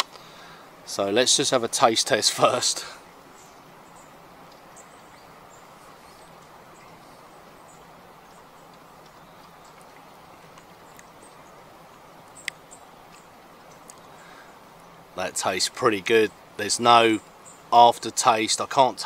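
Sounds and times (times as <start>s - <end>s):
faint steady rush: 0.0s - 19.0s.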